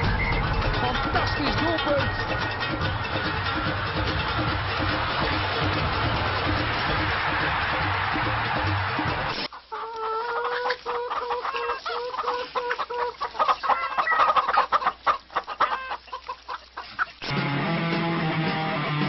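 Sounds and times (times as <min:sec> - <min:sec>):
choppy ringing animal calls: 0:00.0 - 0:17.3.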